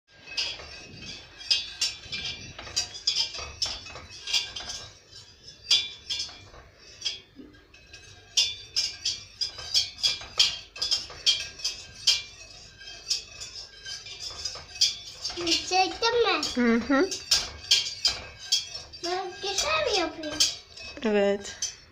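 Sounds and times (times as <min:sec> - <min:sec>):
metal utensil clinking on pot: 0:00.1 - 0:21.9.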